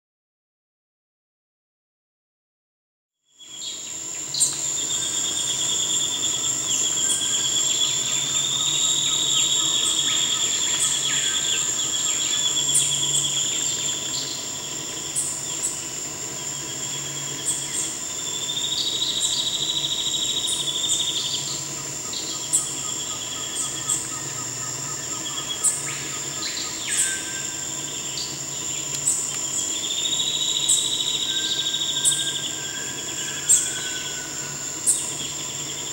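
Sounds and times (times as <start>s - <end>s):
bird singing fast trill: 3.3s - 15.8s, 16.4s - 35.9s
high-pitched insect drone: 3.3s - 35.9s.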